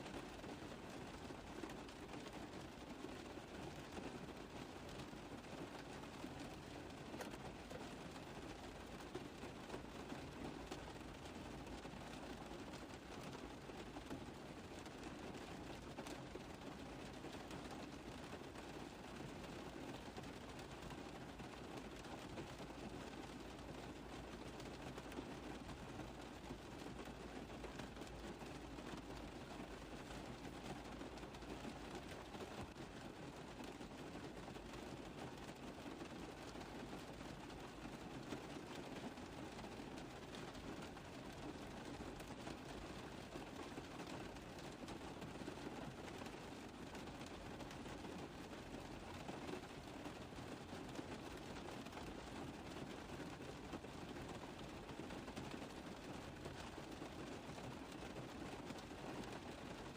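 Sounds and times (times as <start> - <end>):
rain tapping on a car roof: 0.0 - 59.9.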